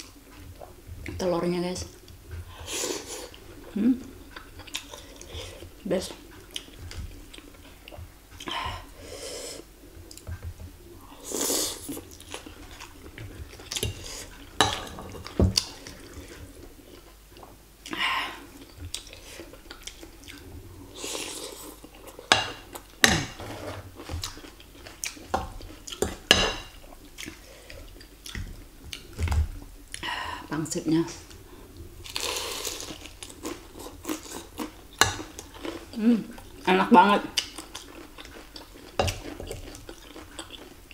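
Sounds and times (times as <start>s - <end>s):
chewing food: 1.8s - 8.8s, 9.9s - 23.0s, 24.0s - 29.2s, 31.2s - 40.9s.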